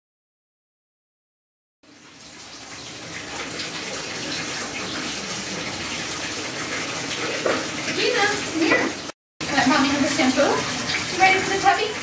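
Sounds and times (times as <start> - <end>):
tap water running into bathtub: 1.8 - 12.0.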